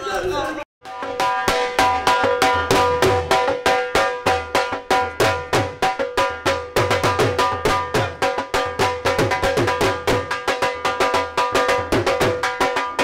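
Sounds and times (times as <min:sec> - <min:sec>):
drum beaten in dance rhythm: 0:00.8 - 0:13.0.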